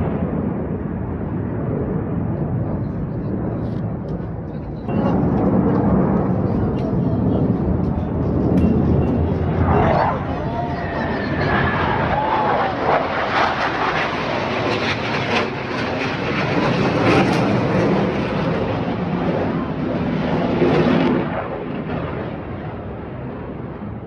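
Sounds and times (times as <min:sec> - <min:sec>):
jets flying past: 0:00.0 - 0:24.0.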